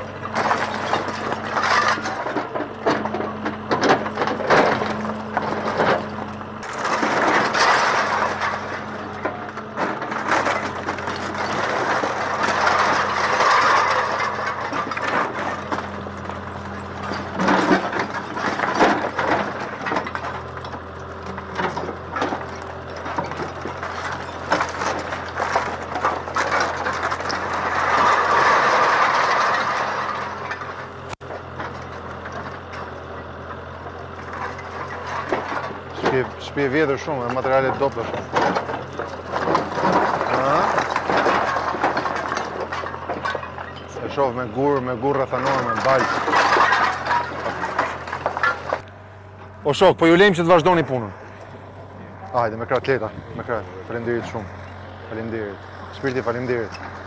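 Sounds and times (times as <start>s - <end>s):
masonry crashing and cracking: 0.0s - 48.9s, 49.7s - 57.0s
diesel engine running: 0.0s - 57.0s.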